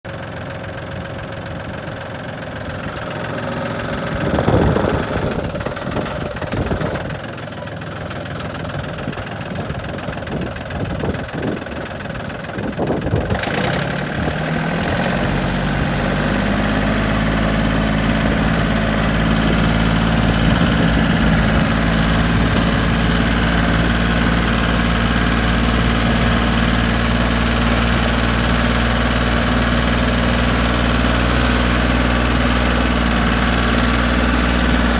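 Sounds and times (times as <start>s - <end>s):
tractor engine running: 0.0s - 34.9s
engine knocks: 0.1s - 34.9s.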